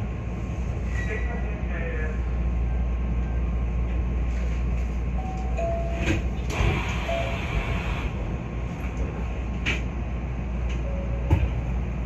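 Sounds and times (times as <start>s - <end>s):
electric train humming: 1.8s - 12.0s.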